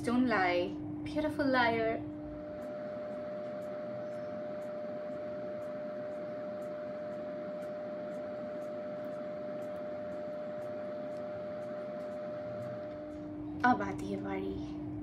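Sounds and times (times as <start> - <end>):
mid-pitched hum: 0.0 - 15.0.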